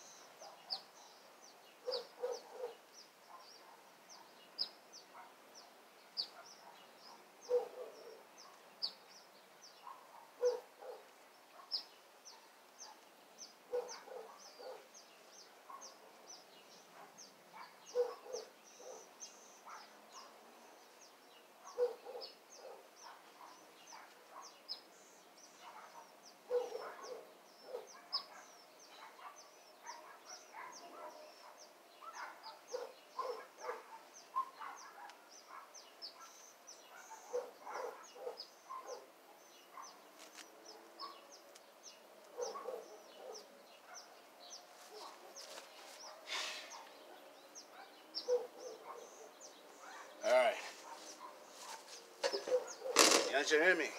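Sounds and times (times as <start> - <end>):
birds chirping faintly: 0.0 - 53.9.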